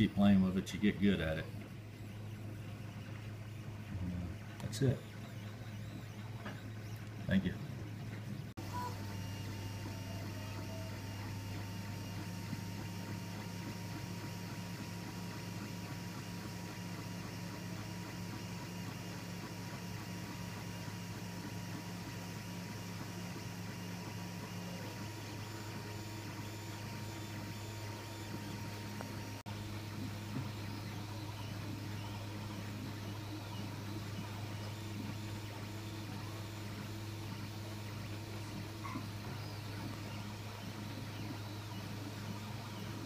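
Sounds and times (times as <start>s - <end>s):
printer motors humming: 0.0s - 43.0s.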